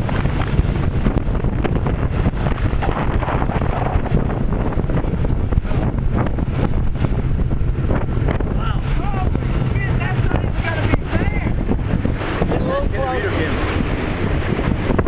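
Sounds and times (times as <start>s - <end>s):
boat rumble: 0.0s - 15.0s
water around boat: 0.0s - 15.0s
wind buffeting microphone: 0.0s - 15.0s.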